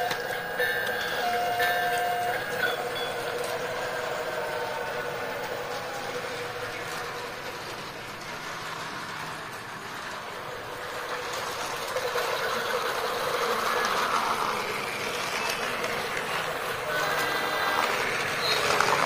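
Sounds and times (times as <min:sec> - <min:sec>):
toy train motor whirring: 0:00.0 - 0:19.0.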